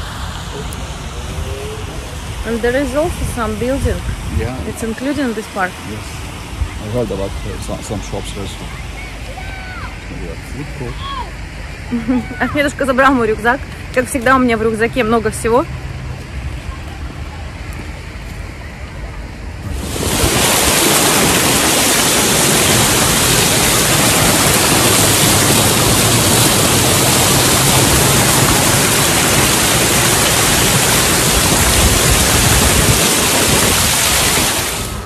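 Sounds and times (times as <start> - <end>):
fountain water rushing: 0.0 - 35.0
outdoor rumble: 0.0 - 35.0.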